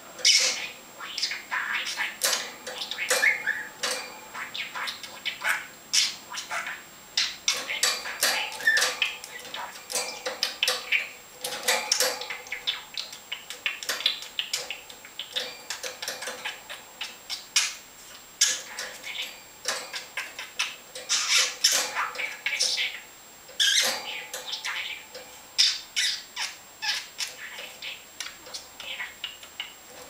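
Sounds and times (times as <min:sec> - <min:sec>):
budgerigar chattering: 0:00.2 - 0:17.8, 0:18.4 - 0:29.8.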